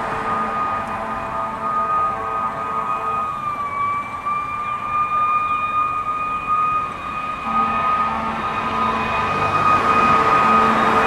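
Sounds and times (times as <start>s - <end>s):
fire truck horn blast: 0.0s - 5.0s, 5.6s - 11.0s
fire truck siren wailing: 0.0s - 11.0s.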